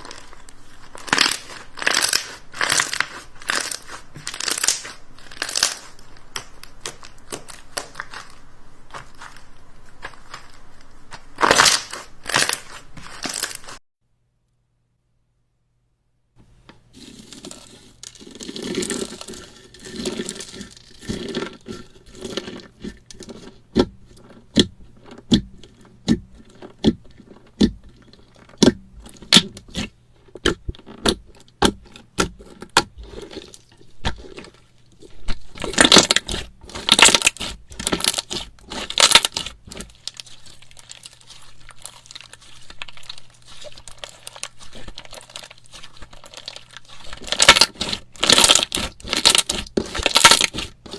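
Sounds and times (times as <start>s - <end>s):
slime squelching: 0.0s - 13.8s, 16.8s - 50.9s.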